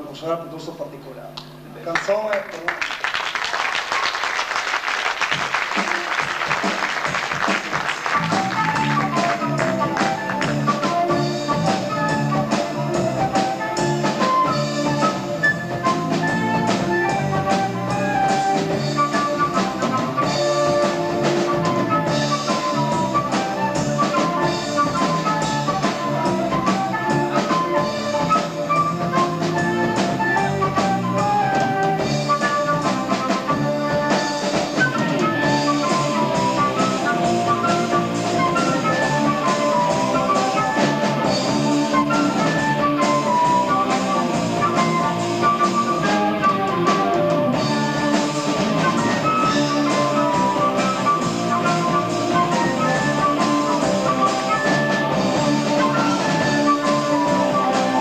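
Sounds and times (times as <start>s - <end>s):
progressive rock band playing live: 5.3s - 58.0s.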